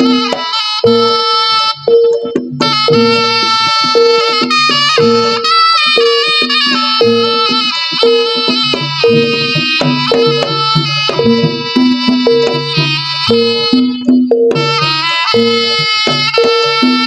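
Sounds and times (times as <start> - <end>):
low struck percussion notes: 0.0 - 17.0
reedy wind instrument melody: 0.0 - 17.0.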